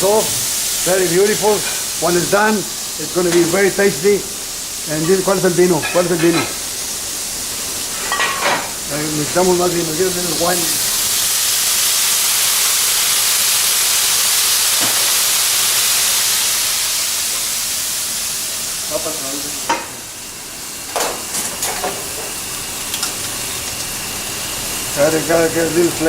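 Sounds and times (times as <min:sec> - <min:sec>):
food sizzling in a hot pan: 0:00.0 - 0:26.0
steam hissing: 0:00.0 - 0:26.0.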